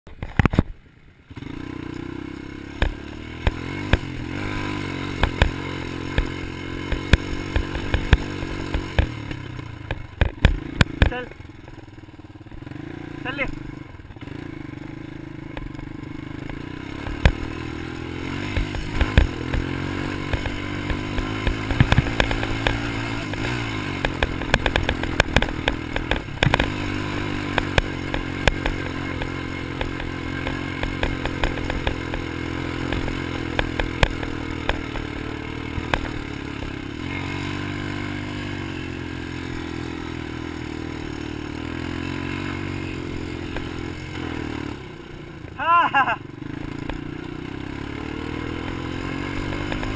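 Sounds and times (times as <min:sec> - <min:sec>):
quad bike engine revving: 0:00.1 - 0:49.9.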